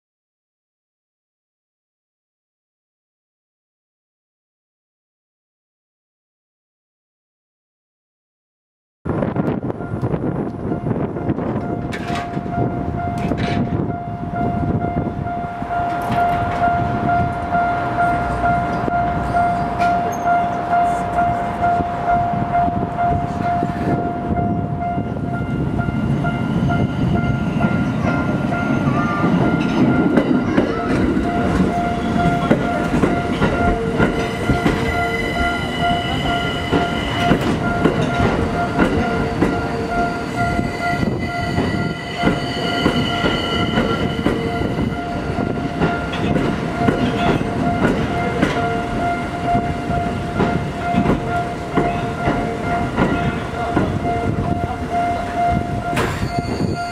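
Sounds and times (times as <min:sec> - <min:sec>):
train wheels rumbling and clattering: 0:09.1 - 0:56.9
level crossing warning bell: 0:09.6 - 0:56.9.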